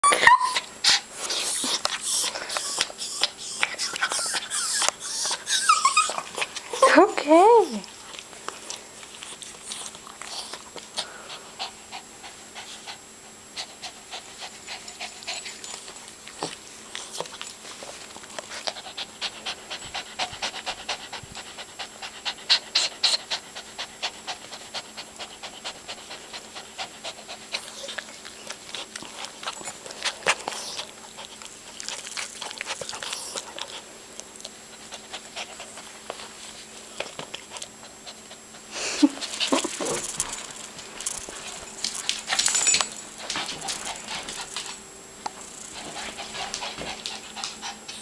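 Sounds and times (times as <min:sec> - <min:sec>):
dog panting rapidly: 0:00.8 - 0:07.8, 0:09.3 - 0:16.0, 0:16.9 - 0:33.9, 0:34.5 - 0:44.8, 0:45.4 - 0:48.0.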